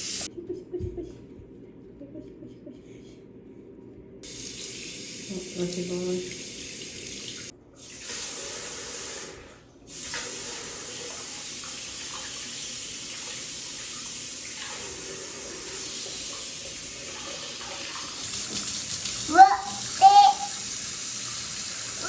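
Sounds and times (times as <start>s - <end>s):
tap water running: 0.0s - 0.3s, 4.2s - 22.0s.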